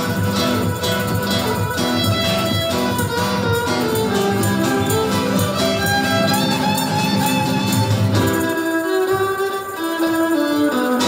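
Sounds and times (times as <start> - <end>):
fiddle melody: 0.0 - 11.0
string accompaniment: 0.0 - 11.0.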